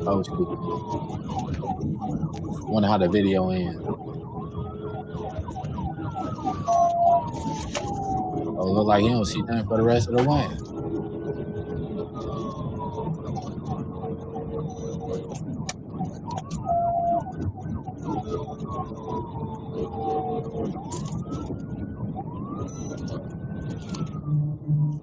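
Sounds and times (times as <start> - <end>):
police siren wailing: 0.0 - 25.0
road and engine noise: 0.0 - 25.0.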